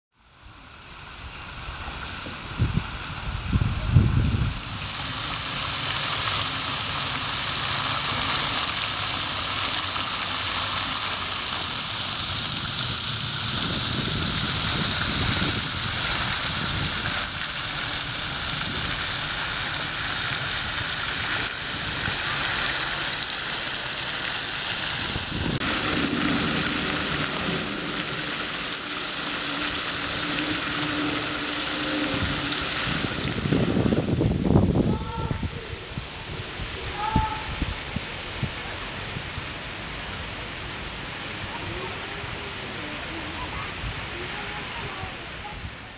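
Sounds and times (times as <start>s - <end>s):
fountain spray falling into pond: 0.2s - 45.9s.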